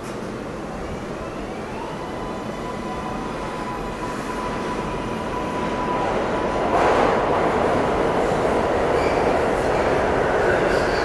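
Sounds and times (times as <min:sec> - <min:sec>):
subway train rumble: 0:00.0 - 0:11.0.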